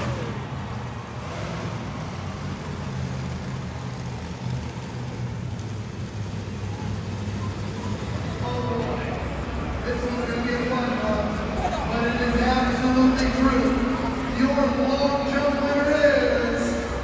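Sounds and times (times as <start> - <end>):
truck engine deep rumble: 0.0 - 17.0.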